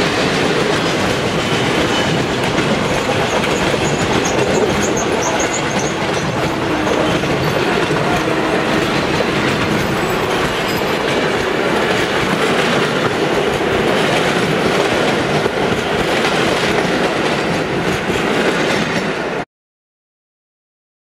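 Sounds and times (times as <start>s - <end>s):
train wheels running on rails: 0.0s - 19.4s.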